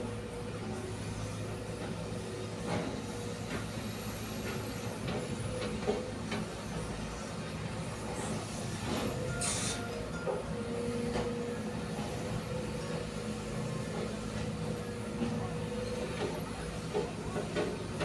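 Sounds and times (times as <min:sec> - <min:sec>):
heavy diesel machinery humming: 0:00.0 - 0:18.0.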